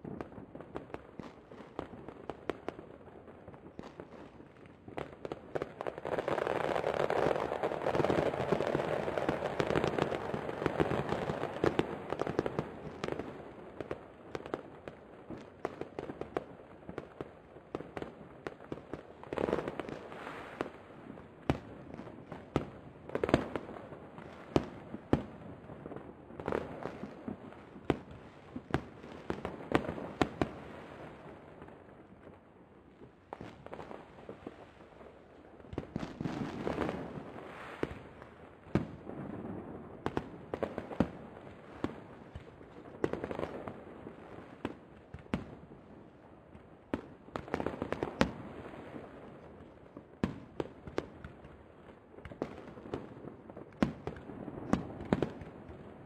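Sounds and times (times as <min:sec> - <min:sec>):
fireworks bangs and pops: 0:00.0 - 0:56.0.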